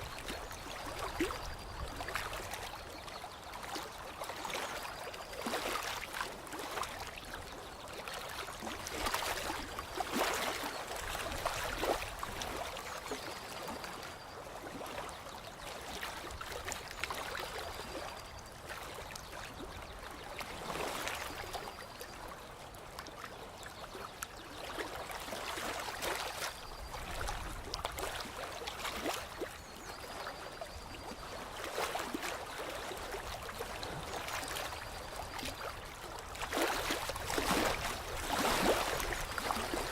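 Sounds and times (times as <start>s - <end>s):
water lapping and trickling: 0.0s - 39.9s.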